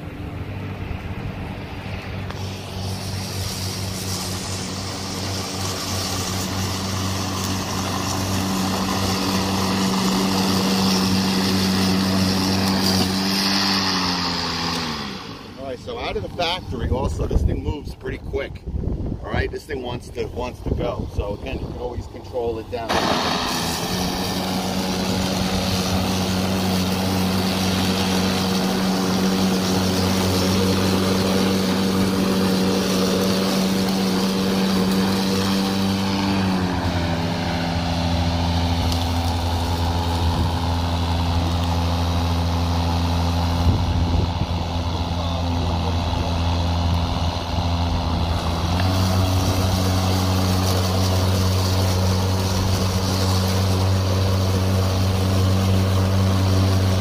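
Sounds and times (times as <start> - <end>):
lawn mower electric whir: 0.0 - 57.0.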